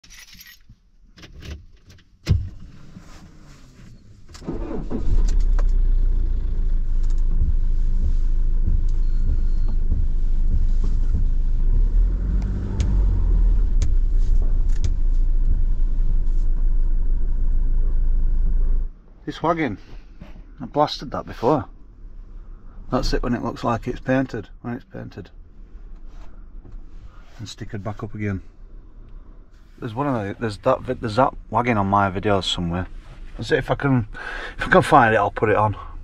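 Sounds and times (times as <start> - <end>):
van engine and road rumble: 0.0 - 36.0.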